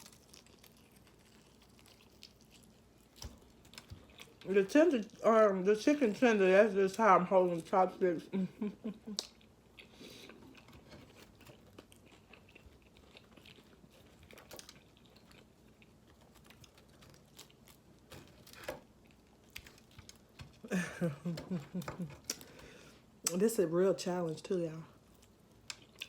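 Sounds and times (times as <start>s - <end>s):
person chewing food: 0.0s - 5.2s, 8.6s - 23.4s, 25.0s - 26.0s.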